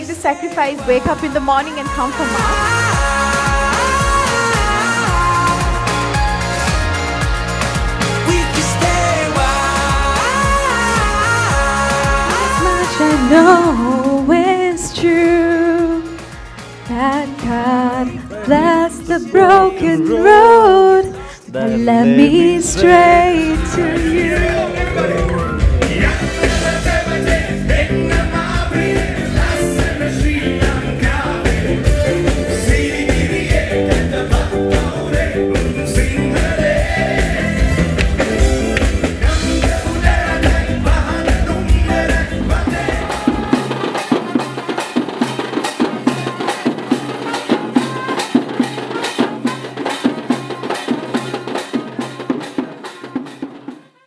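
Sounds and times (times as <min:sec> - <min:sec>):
song with drums and beat: 0:00.0 - 0:54.0.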